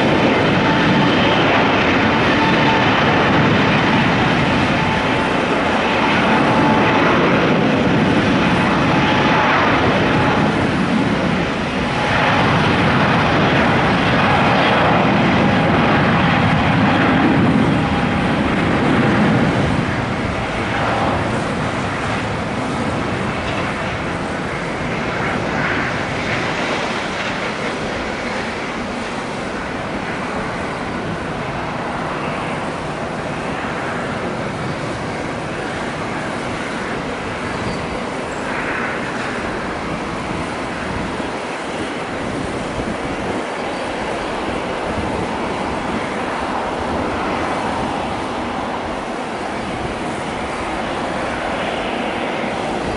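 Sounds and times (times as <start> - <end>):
loud jet engine noise: 0.0 - 52.9.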